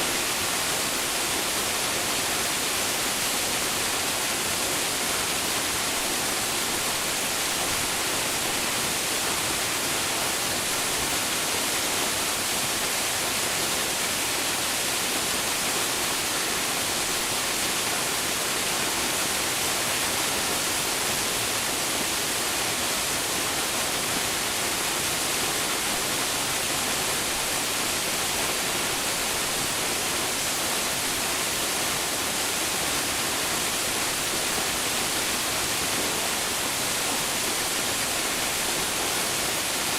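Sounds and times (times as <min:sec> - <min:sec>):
waterfall splashing into pool: 0:00.0 - 0:39.9.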